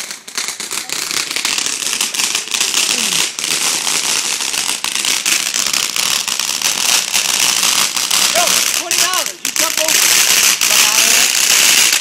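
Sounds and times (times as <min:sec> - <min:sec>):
firework fountain crackling: 0:00.0 - 0:12.0.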